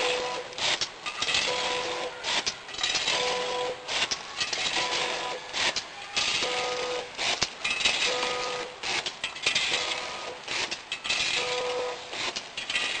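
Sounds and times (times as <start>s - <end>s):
machine humming: 0.0s - 13.0s
packing machine clattering and clicking: 0.0s - 13.0s.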